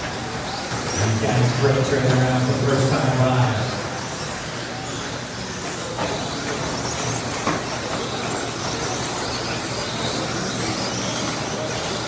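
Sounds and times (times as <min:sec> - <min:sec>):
rc car motors whirring: 0:00.0 - 0:12.0.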